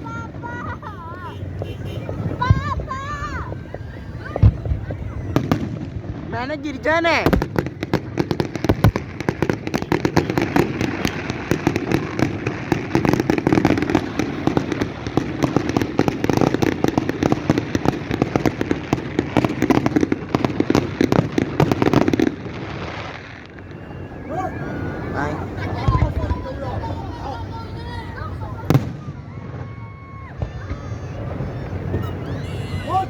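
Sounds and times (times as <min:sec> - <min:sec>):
fireworks crackling pops and bangs: 0:00.0 - 0:33.0.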